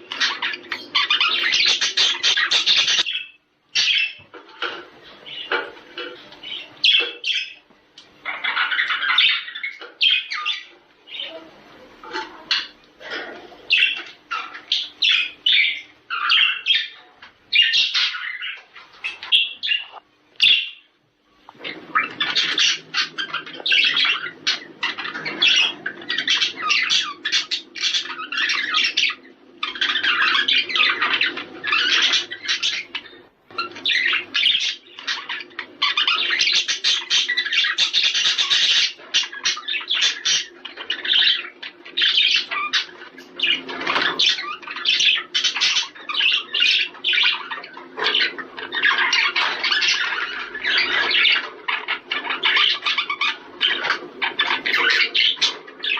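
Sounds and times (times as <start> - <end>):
budgerigar warbling and chattering: 0.0 - 7.6, 8.2 - 20.9, 21.5 - 55.9.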